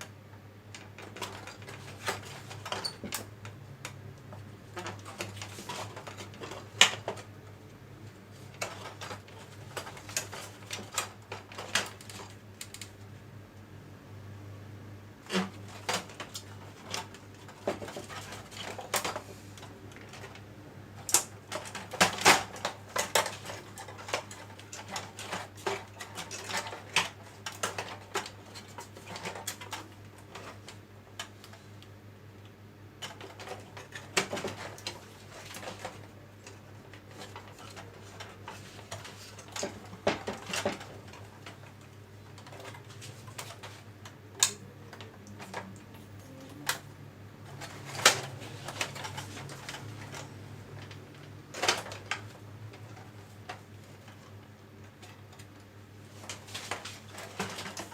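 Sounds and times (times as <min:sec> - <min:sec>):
tools and small parts clattering: 0:00.7 - 0:03.3, 0:04.7 - 0:07.3, 0:08.5 - 0:12.8, 0:15.3 - 0:20.4, 0:21.0 - 0:31.4, 0:33.0 - 0:55.5, 0:56.1 - 0:57.9.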